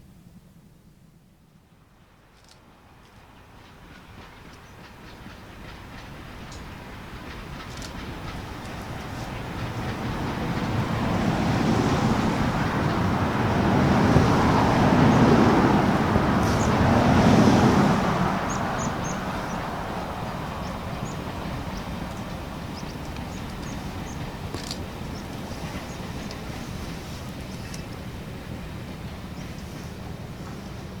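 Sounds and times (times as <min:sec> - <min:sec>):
steam train passing: 0:01.7 - 0:31.0.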